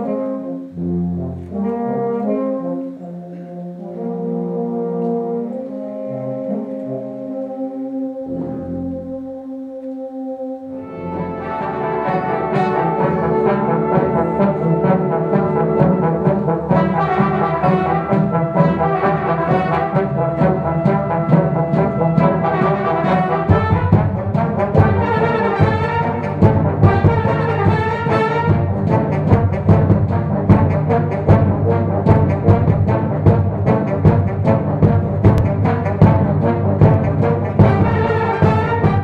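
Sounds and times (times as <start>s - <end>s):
brass band playing film music: 0.0s - 39.0s.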